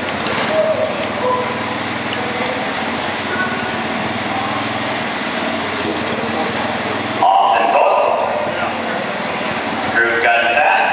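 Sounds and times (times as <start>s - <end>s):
small gasoline engine running: 0.0s - 10.8s.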